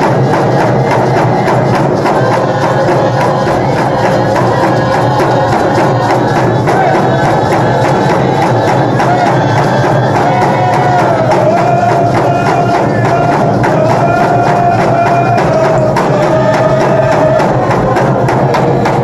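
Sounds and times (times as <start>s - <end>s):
group of voices singing: 0.0s - 19.0s
hand drums beating: 0.0s - 19.0s.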